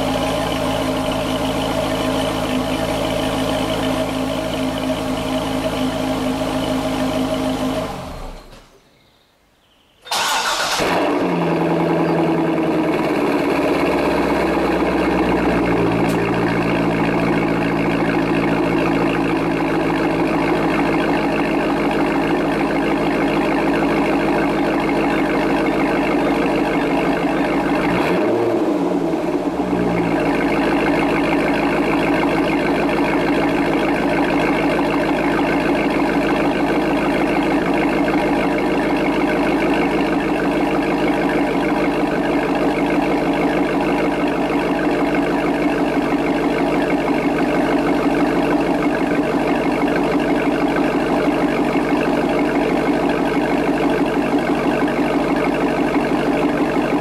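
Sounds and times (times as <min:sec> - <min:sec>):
car engine idling: 0:00.0 - 0:08.8, 0:10.0 - 0:57.0
car engine starting: 0:00.0 - 0:08.8, 0:10.0 - 0:57.0.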